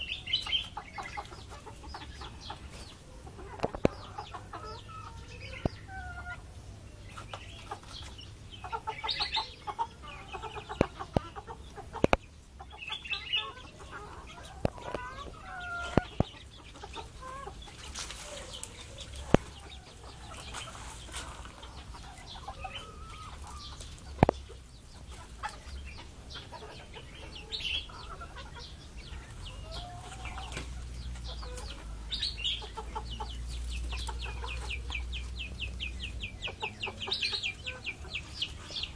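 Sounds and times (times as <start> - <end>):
chick peeping: 0.0 - 38.9
hens clucking: 0.0 - 38.9.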